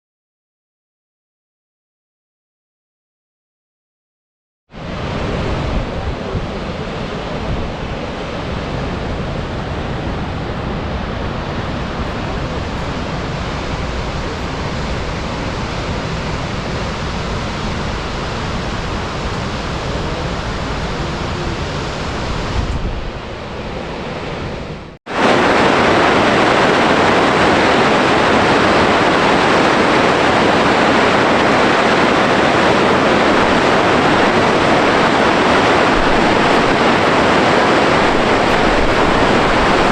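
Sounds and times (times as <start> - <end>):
waterfall roaring: 4.8 - 39.9.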